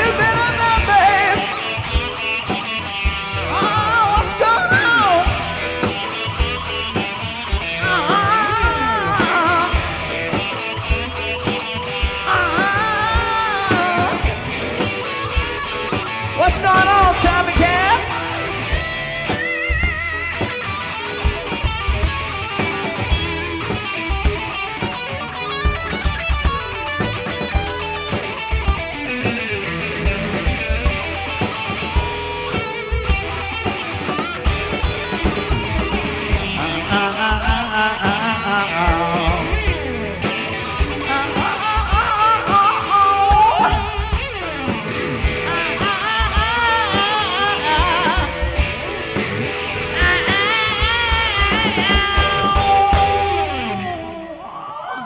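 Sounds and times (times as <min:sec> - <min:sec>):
drum beat: 0:00.0 - 0:53.9
bass: 0:00.0 - 0:54.5
electric guitar lead: 0:00.0 - 0:55.0
keyboards: 0:00.0 - 0:55.0
live pop-rock band: 0:00.0 - 0:55.0.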